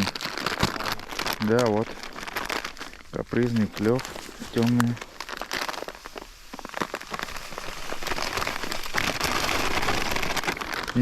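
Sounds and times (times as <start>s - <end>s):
gritty crumbs pouring into bucket: 0.0s - 11.0s.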